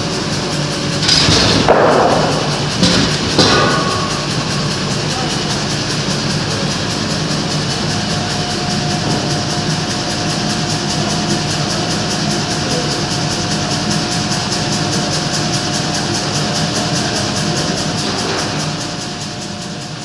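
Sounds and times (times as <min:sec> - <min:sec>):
sawmill running: 0:00.0 - 0:20.0.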